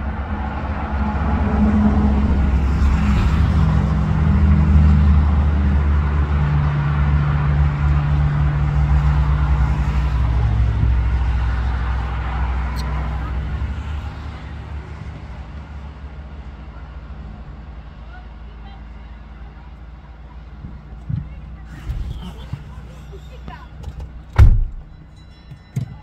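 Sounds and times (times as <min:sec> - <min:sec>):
road and wind noise: 0:00.0 - 0:26.0
vehicle engine humming: 0:00.0 - 0:26.0.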